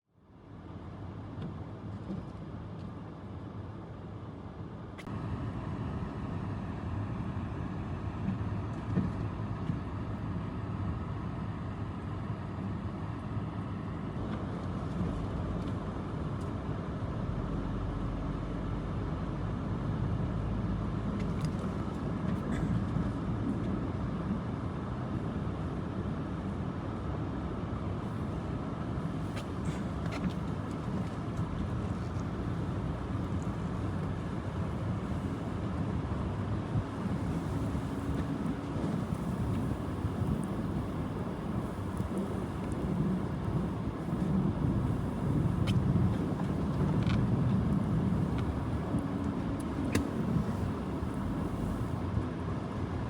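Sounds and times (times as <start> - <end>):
vehicle engine and road rumble: 0.1 - 53.0.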